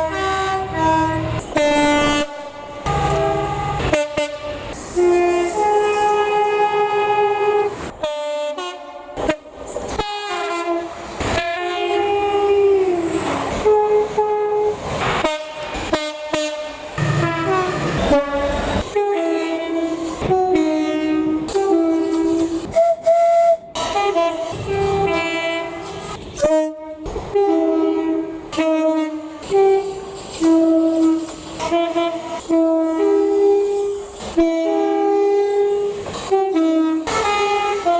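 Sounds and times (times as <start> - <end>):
train horn blasts: 0.0 - 37.9.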